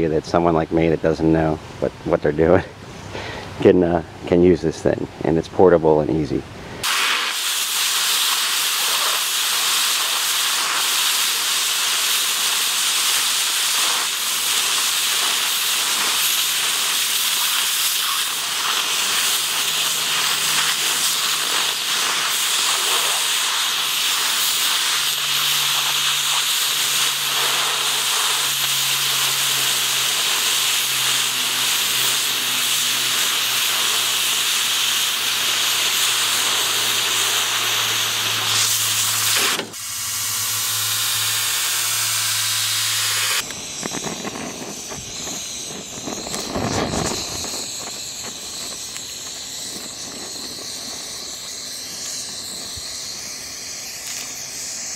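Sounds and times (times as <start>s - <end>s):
cutting torch hissing: 6.7s - 54.9s
torch flame hissing: 6.8s - 54.9s.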